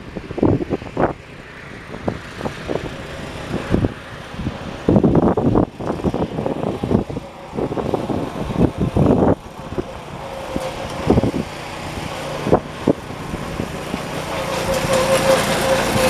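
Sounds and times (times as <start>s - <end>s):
garden tractor engine humming: 0.0s - 16.0s
wind buffeting microphone: 0.0s - 16.0s.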